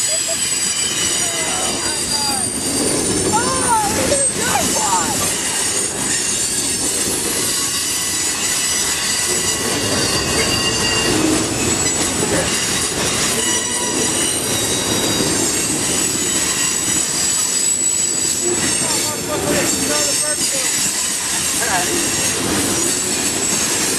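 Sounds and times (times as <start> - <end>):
high-pitched wheel squealing: 0.0 - 23.9
train wheels rumbling on rail: 0.0 - 23.9.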